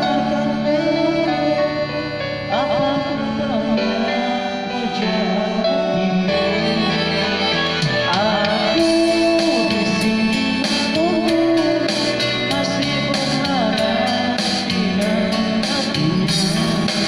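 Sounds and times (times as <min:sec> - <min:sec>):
pop-rock band music: 0:00.0 - 0:17.0.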